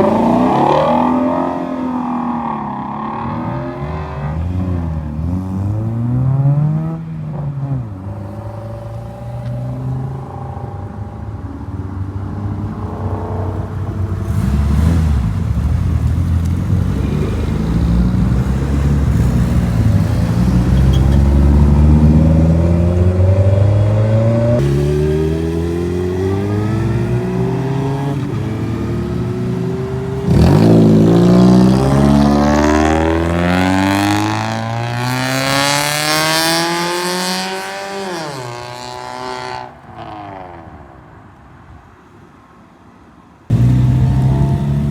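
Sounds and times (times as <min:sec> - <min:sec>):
car engines accelerating hard: 0:00.0 - 0:40.5, 0:43.5 - 0:44.9
loud car revving: 0:00.0 - 0:40.7, 0:43.5 - 0:44.9.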